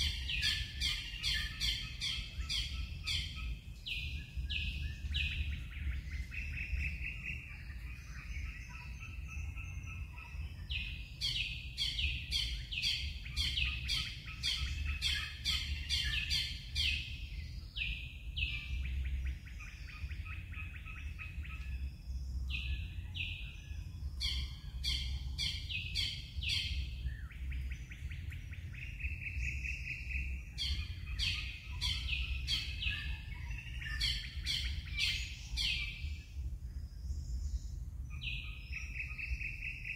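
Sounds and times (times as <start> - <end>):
birds calling with buzzy trills: 0.0 - 39.9
low rumble: 1.8 - 39.9.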